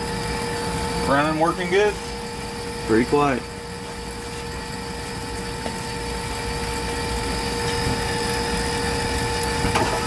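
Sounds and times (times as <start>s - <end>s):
electric fuel pump humming: 0.0s - 10.0s.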